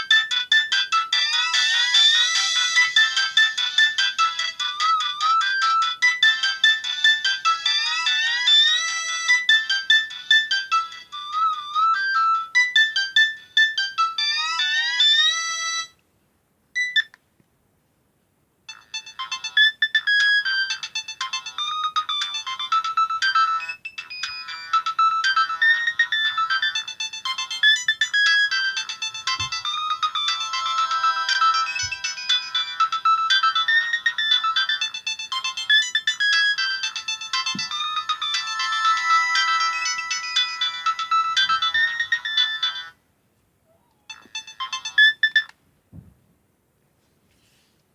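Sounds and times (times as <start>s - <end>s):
busy phone ringtone: 0.0s - 16.0s, 18.7s - 43.0s, 43.8s - 45.5s
high electronic ringtone melody: 0.0s - 16.0s, 18.7s - 43.0s, 43.8s - 45.5s.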